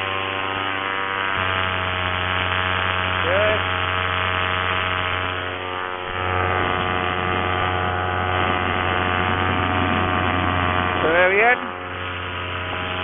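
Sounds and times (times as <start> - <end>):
paramotor engine and propeller droning: 0.0 - 13.0.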